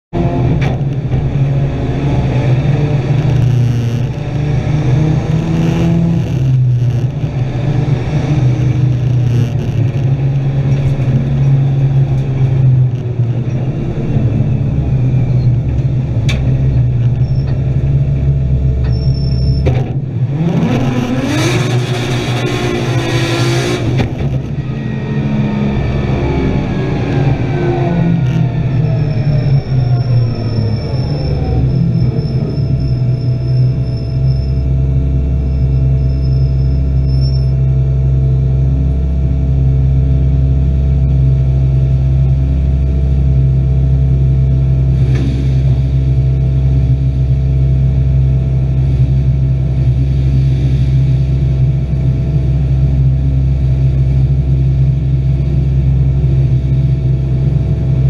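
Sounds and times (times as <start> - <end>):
car engine at high revs: 0.1 - 58.0.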